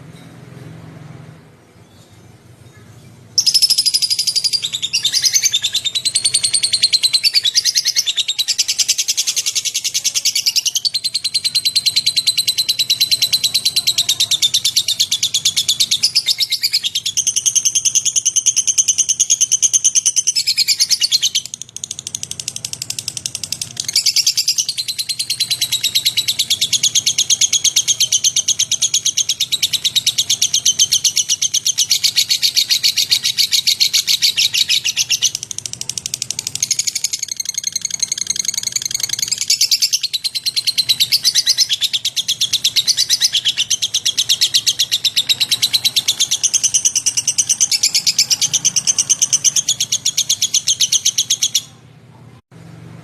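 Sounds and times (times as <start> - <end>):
bird chattering trill: 2.7 - 51.8.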